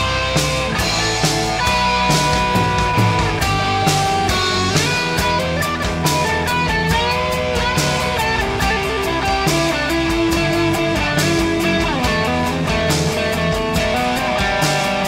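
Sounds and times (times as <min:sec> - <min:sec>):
bending guitar lead line: 0:00.0 - 0:15.0
drum beat: 0:00.0 - 0:15.0
electric guitars: 0:00.0 - 0:15.0.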